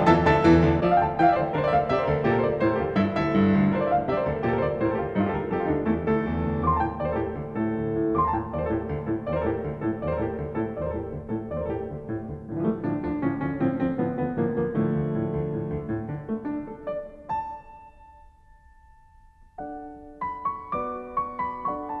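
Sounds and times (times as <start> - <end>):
flowing piano music: 0.0 - 22.0.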